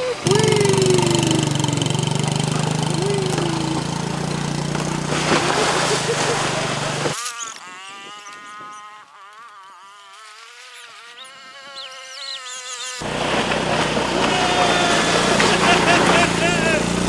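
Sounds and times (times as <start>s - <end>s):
small engine running: 0.0s - 17.0s
sped up engine buzz: 0.0s - 17.0s.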